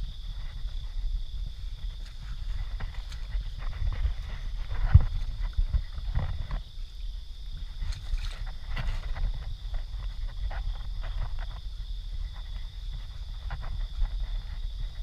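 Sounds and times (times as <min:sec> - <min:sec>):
grass rustling: 0:00.0 - 0:15.0
night insects chorus: 0:00.0 - 0:15.0.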